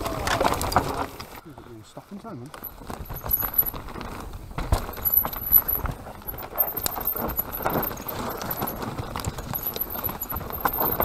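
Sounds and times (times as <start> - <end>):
wheels knocking on rocks: 0.0 - 1.4, 2.5 - 11.0
tyres crunching over stones: 0.0 - 1.6, 2.2 - 11.0
bike chain and frame rattling: 0.2 - 1.2, 2.5 - 11.0.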